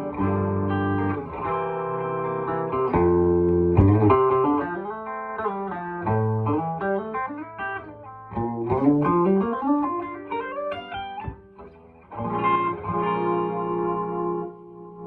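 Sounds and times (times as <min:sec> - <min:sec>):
electric guitar lead lines: 0:00.0 - 0:15.0
guitar chord ringing: 0:00.0 - 0:15.0.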